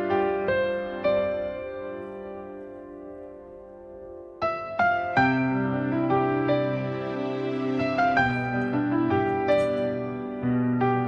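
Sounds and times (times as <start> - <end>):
soft slow piano: 0.0 - 11.0.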